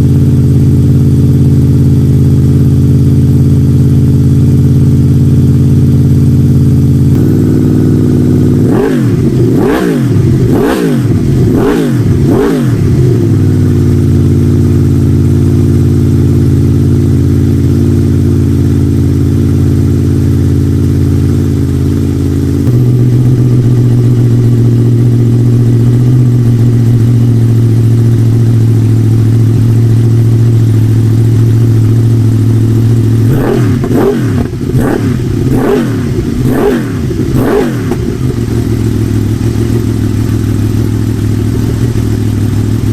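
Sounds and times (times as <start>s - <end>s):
motorcycle engine idling: 0.0s - 42.9s
motorcycle engine revving: 0.0s - 42.9s.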